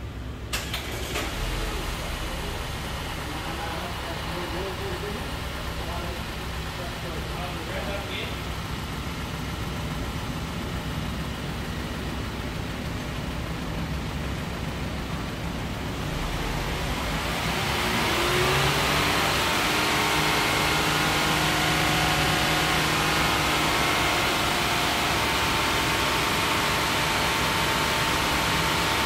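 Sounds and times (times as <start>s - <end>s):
car engine revving: 0.6s - 29.0s.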